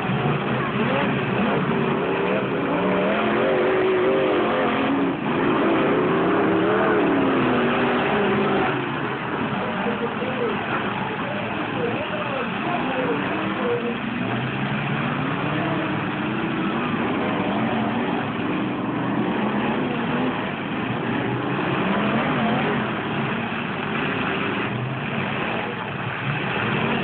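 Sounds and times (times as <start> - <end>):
truck engines revving: 0.0 - 27.0.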